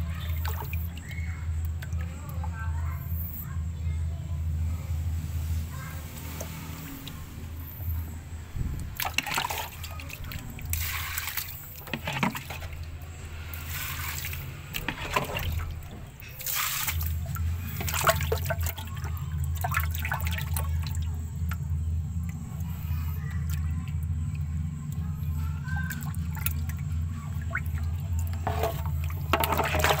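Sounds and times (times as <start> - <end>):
fish splashing in a plastic tub: 0.0 - 2.6, 6.1 - 30.0
steady low hum: 0.0 - 30.0.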